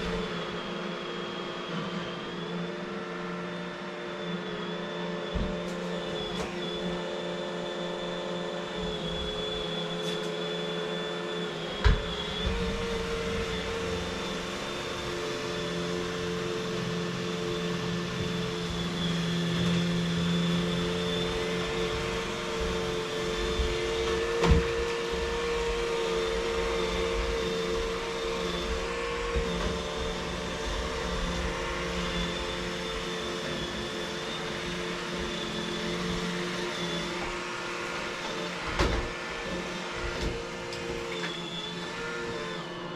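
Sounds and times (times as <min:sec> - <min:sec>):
vacuum cleaner motor running: 0:00.0 - 0:42.9.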